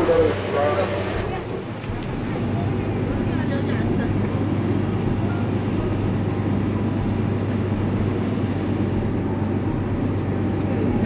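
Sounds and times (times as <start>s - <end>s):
boat engine drone: 0.0s - 11.0s
water and hull noise: 0.0s - 11.0s.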